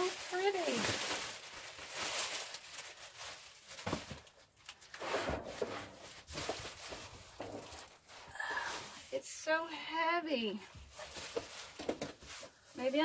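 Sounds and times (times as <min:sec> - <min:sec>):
plastic wrapping crinkling: 0:00.0 - 0:09.2, 0:10.4 - 0:13.0.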